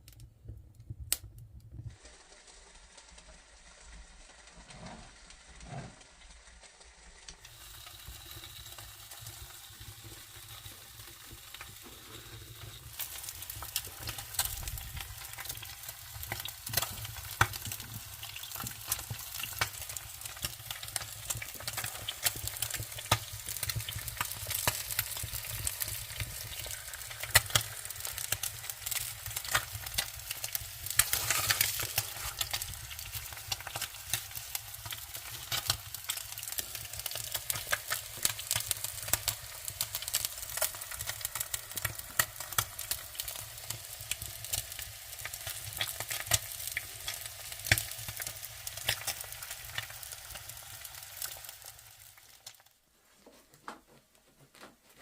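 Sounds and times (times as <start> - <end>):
wood fire crackling and popping: 0.0 - 52.8.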